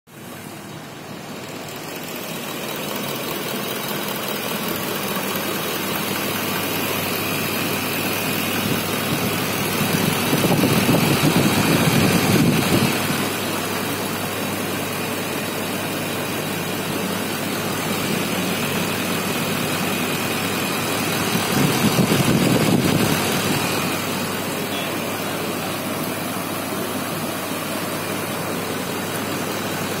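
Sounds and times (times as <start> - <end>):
diesel engine running: 0.1 - 30.0.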